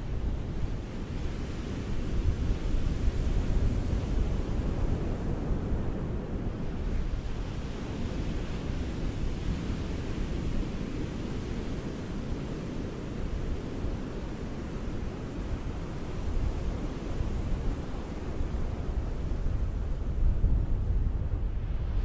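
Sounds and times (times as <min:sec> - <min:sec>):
ocean waves washing on shore: 0:00.0 - 0:22.0.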